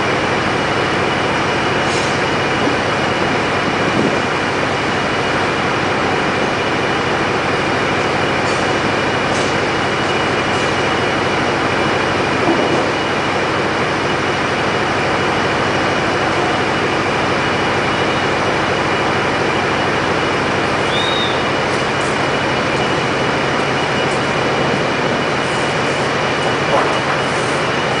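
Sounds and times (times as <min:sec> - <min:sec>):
mobile crane running: 0:00.0 - 0:28.0.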